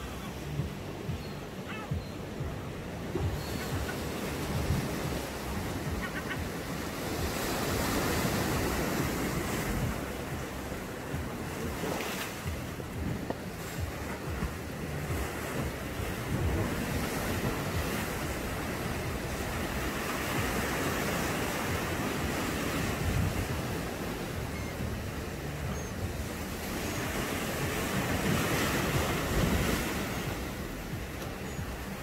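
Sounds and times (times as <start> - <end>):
wind buffeting microphone: 0.0 - 32.0
waves washing against rocks: 2.8 - 32.0.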